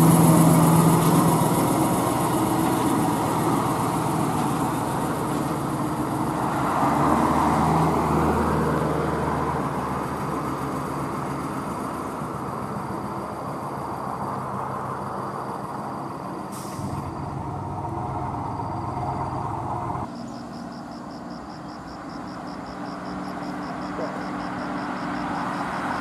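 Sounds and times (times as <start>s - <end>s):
truck diesel engine passing: 0.0s - 26.0s.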